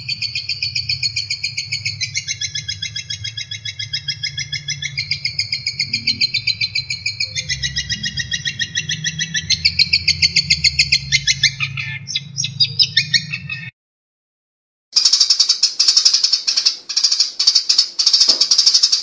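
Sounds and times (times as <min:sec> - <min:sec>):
songbird song: 0:00.0 - 0:13.7, 0:15.0 - 0:19.0.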